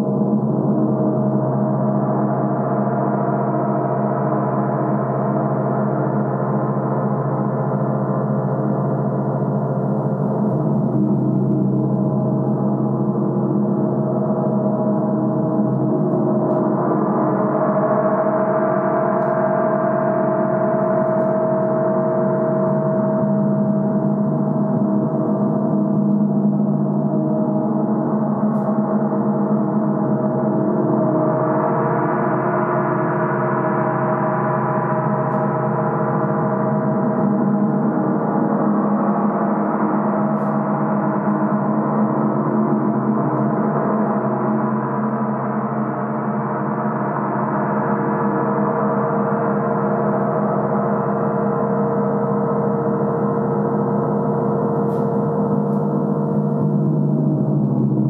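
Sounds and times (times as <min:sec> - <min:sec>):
gong played with mallets: 0:10.1 - 0:58.0.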